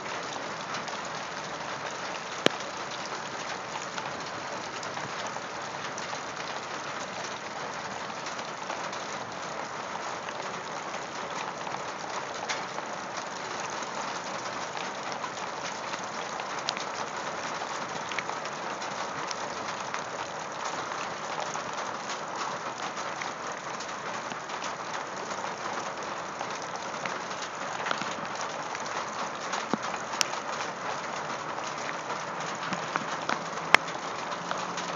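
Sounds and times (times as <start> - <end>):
torrential rain on gravel: 0.0 - 34.9.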